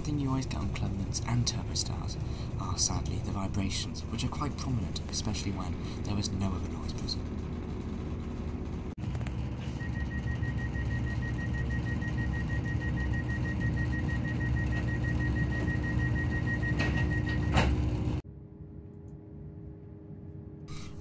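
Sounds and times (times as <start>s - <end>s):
cabin hum: 0.0s - 21.0s.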